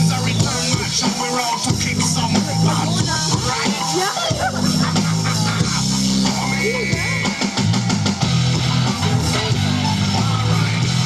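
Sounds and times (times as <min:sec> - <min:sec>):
rock music over loudspeaker: 0:00.0 - 0:11.0.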